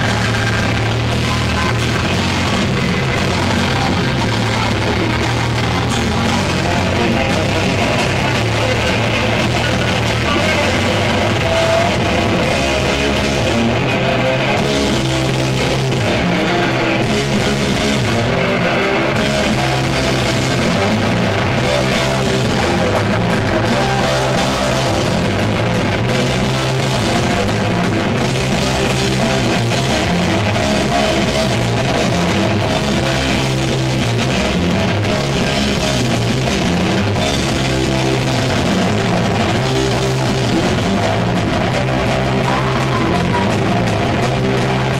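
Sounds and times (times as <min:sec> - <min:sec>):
bass guitar: 0:00.0 - 0:44.9
distorted electric guitar riffing: 0:00.0 - 0:44.9
drums: 0:00.0 - 0:44.9.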